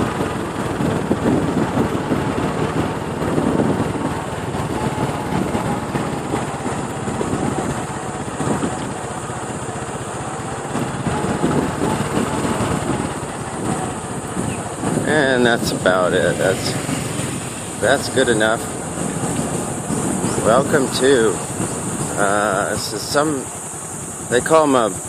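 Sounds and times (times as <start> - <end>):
small motorcycle engine running: 0.0 - 25.0
steady rushing noise: 0.0 - 25.0.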